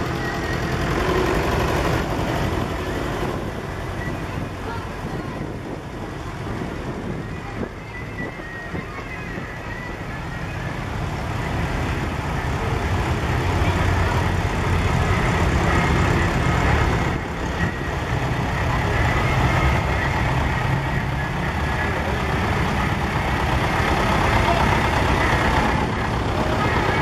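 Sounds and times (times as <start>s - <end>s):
tractor engines driving past: 0.0s - 27.0s.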